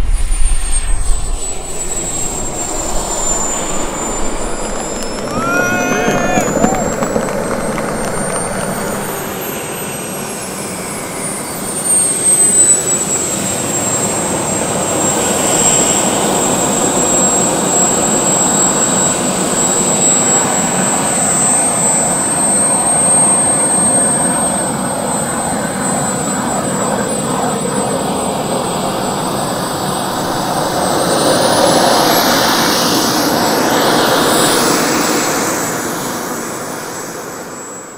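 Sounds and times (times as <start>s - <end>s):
model jet turbine whine: 0.0s - 37.9s.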